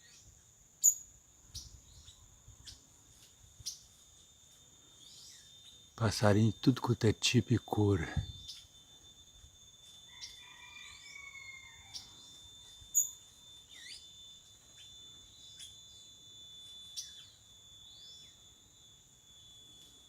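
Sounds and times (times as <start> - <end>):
wild birds chirping: 0.0 - 18.9
insects chorus: 0.0 - 20.0.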